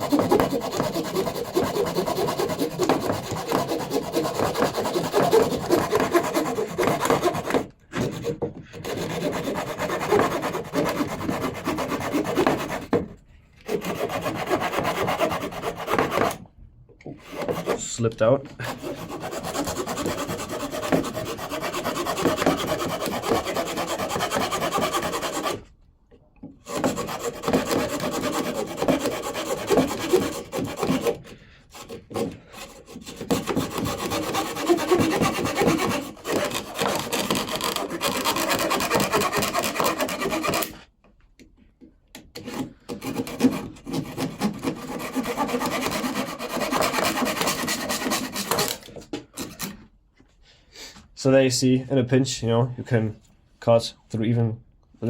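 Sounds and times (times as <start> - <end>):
small saw cutting wood: 0.0 - 13.0, 13.6 - 16.4, 17.2 - 18.0, 18.6 - 25.6, 26.6 - 40.8, 42.4 - 49.8.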